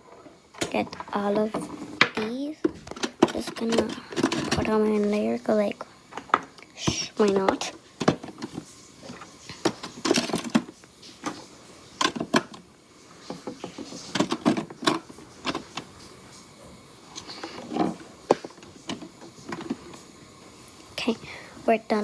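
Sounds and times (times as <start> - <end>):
plastic containers clicking together: 0.6 - 16.4, 17.1 - 20.2.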